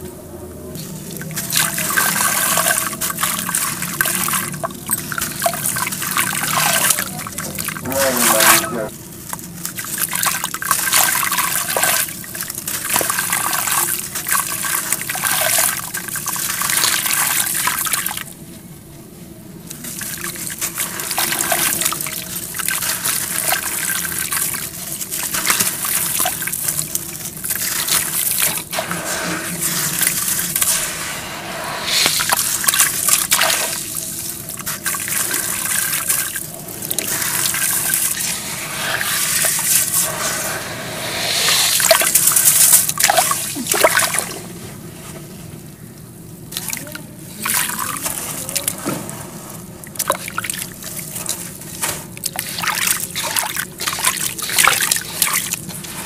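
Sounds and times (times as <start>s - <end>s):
water sloshing and trickling: 0.7s - 18.4s, 19.7s - 31.1s, 32.0s - 40.4s, 41.1s - 45.6s, 46.3s - 56.0s.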